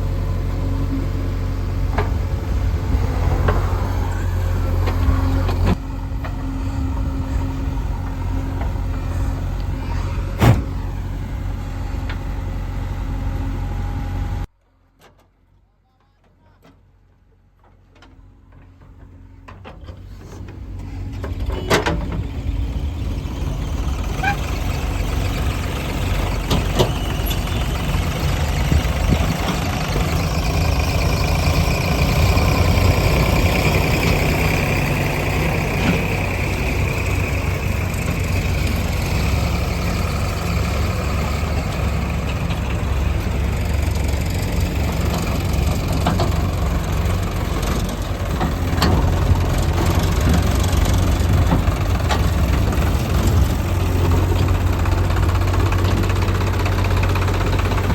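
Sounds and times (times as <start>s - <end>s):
heavy diesel engine running: 0.0s - 14.5s, 18.5s - 57.9s.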